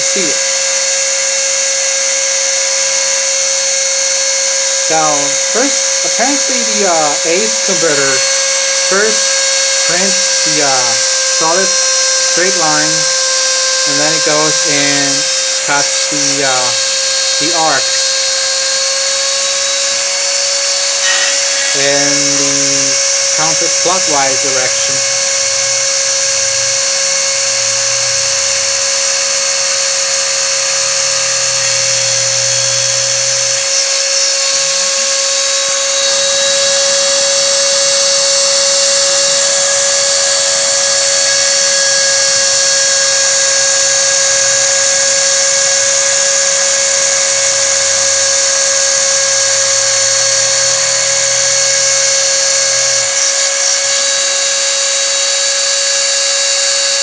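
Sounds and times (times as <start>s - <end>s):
motor hum rising in pitch: 0.0s - 57.0s
router spindle whining: 0.0s - 57.0s.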